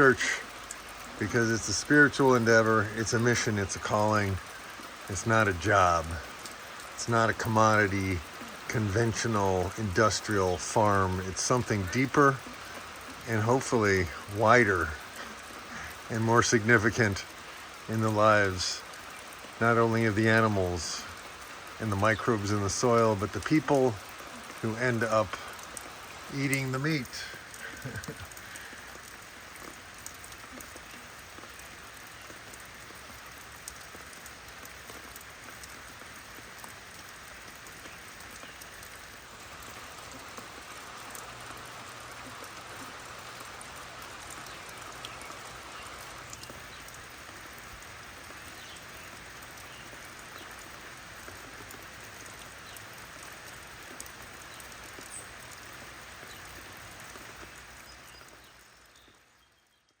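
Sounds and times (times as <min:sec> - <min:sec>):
faint raindrop ticks: 0:00.0 - 1:00.0
steady rain hiss: 0:00.0 - 1:00.0.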